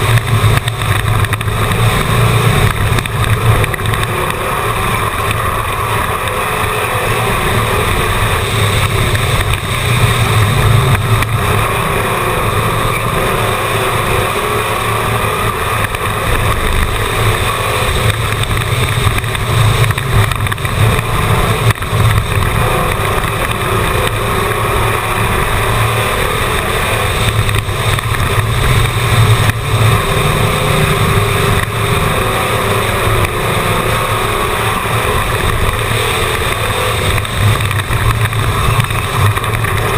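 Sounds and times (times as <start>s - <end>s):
race car engine running: 0.0s - 39.9s
wind and road noise: 0.0s - 39.9s.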